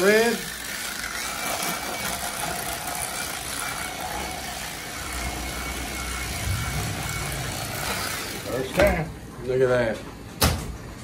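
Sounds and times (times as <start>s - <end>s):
electric knife motor buzzing: 0.0s - 8.9s.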